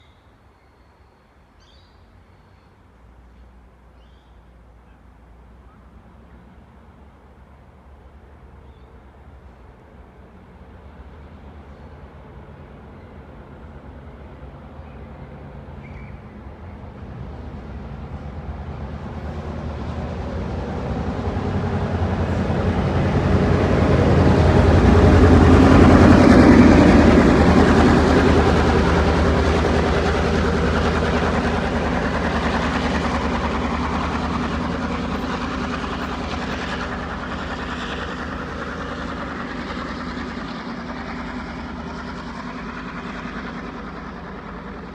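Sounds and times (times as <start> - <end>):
diesel locomotive engines: 0.0 - 44.9
train wheels on rails: 5.4 - 44.9.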